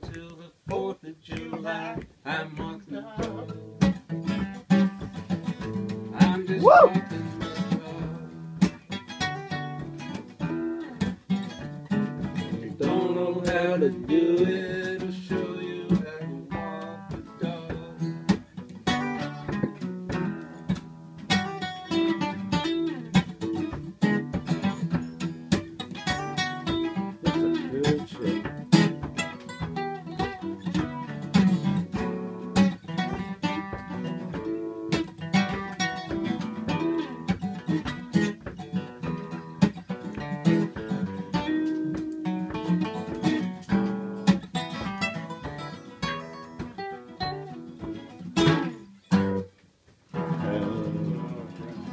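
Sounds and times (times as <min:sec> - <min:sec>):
acoustic guitar playing: 0:00.0 - 0:51.9.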